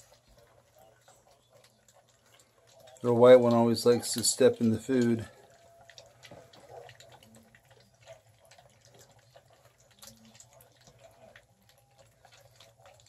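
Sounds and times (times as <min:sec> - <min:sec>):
puppies lapping and smacking: 0:00.0 - 0:13.0.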